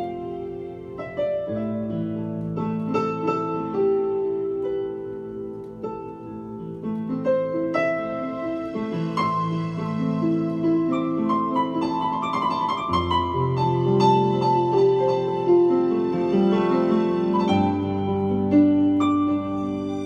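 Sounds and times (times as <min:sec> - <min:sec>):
piano chords on keyboard: 0:00.0 - 0:20.0.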